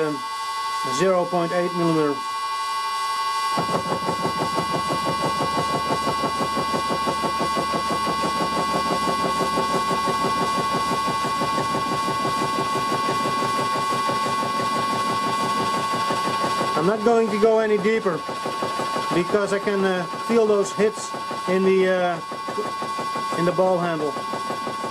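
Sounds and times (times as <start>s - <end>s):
lathe whine: 0.0s - 24.9s
milling cutter hammering metal: 3.5s - 24.9s.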